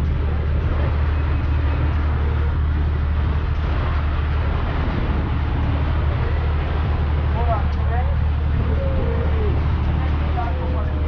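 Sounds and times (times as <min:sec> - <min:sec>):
motorboat engine droning: 0:00.0 - 0:11.0
water rushing: 0:00.0 - 0:11.0
wind: 0:00.0 - 0:11.0.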